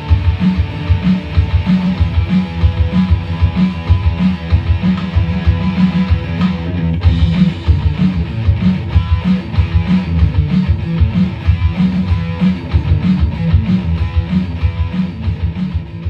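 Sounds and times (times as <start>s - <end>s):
guitar rock music: 0.0s - 16.0s.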